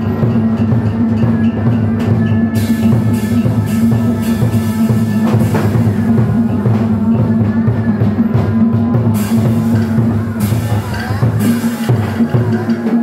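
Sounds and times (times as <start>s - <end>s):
drum strokes: 0.0s - 13.0s.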